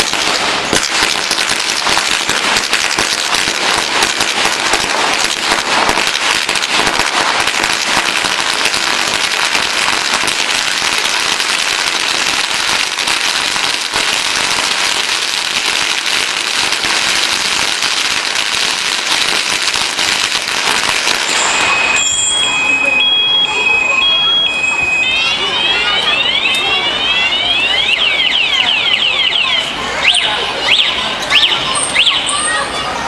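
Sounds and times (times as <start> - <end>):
firecrackers crackling: 0.0 - 33.0.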